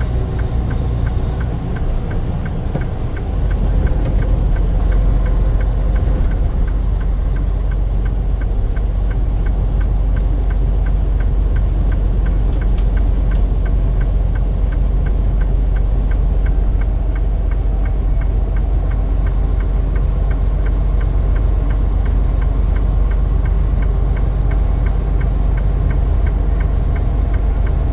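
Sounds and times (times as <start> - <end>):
vehicle engine rumbling: 0.0 - 27.9.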